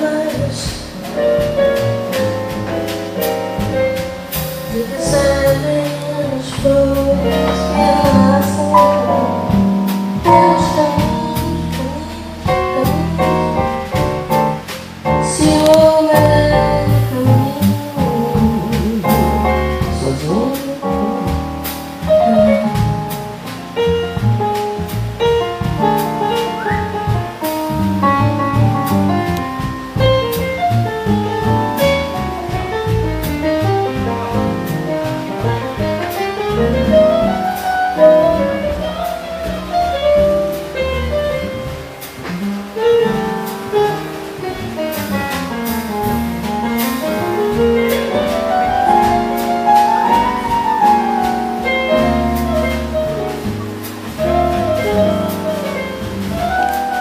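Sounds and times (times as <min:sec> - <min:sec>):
double bass: 0:00.0 - 0:57.0
drum kit with cymbals: 0:00.0 - 0:57.0
piano melodic runs: 0:00.0 - 0:57.0.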